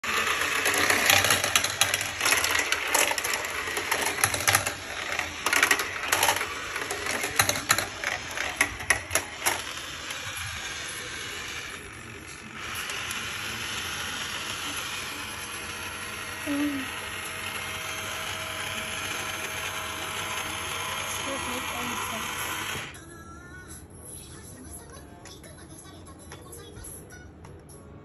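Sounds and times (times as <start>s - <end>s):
marbles clattering on plastic track: 0.0s - 22.9s.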